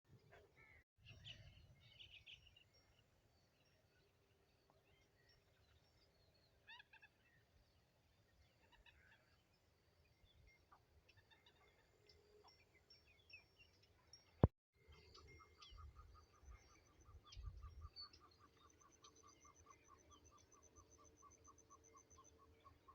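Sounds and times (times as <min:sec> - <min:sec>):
faint bird chirps and trills: 0:00.1 - 0:22.9.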